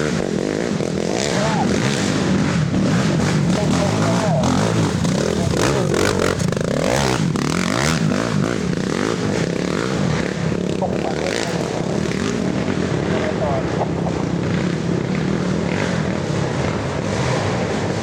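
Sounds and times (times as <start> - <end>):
racing atv engines revving: 0.0 - 18.0.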